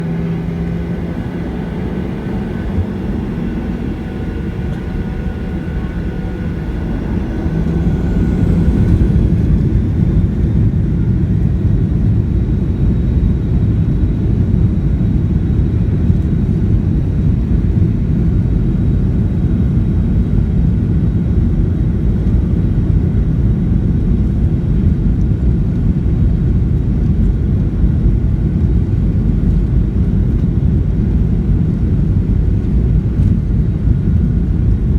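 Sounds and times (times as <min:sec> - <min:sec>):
airplane engines during takeoff: 0:00.0 - 0:34.9.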